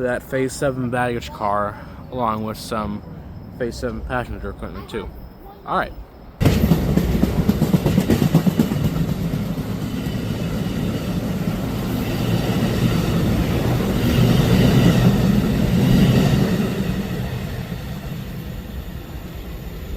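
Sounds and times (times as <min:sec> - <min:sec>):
train rumbling past: 0:00.0 - 0:19.9.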